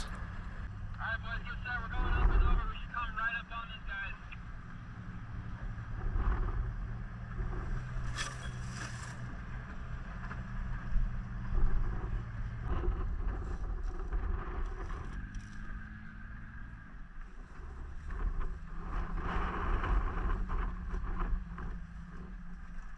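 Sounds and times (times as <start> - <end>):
vehicle engine running: 0.0 - 22.9
wind buffeting microphone: 4.5 - 22.9.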